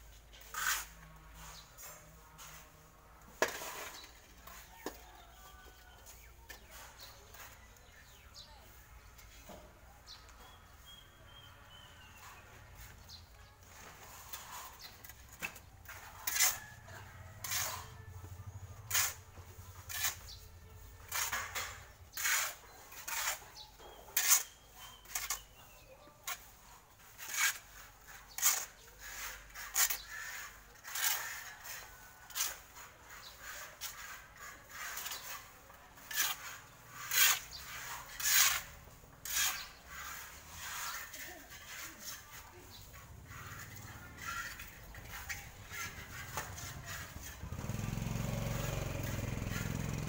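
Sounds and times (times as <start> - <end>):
shovel scraping sand and cement: 0.0 - 50.0.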